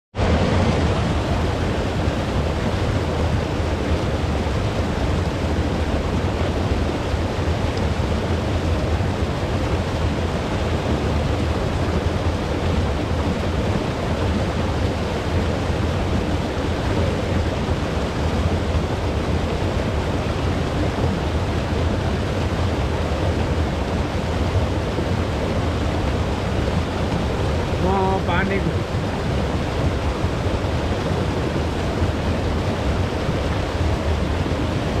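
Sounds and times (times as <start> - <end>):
rushing water with deep rumble: 0.1 - 35.0.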